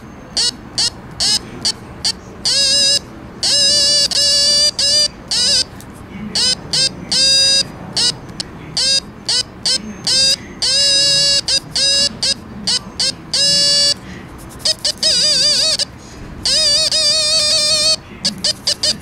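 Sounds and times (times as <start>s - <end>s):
buzzy electronic beeps: 0.0s - 5.7s, 6.4s - 19.0s.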